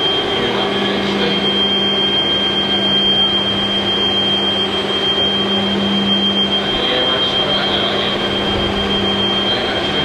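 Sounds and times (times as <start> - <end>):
machine hum with high whine: 0.0 - 10.0
faint murmur of voices: 0.1 - 10.0.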